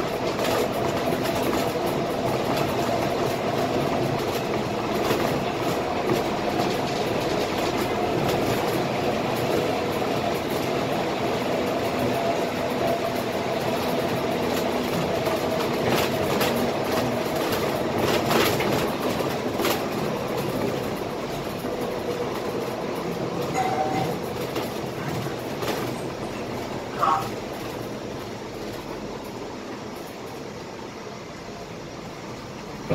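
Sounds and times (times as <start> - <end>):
bus running rumble: 0.0 - 32.9.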